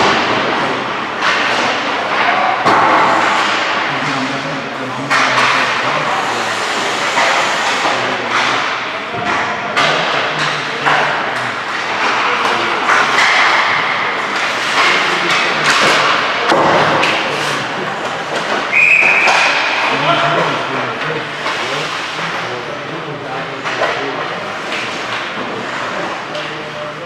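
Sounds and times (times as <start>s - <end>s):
pucks and sticks thudding: 0.0s - 26.8s.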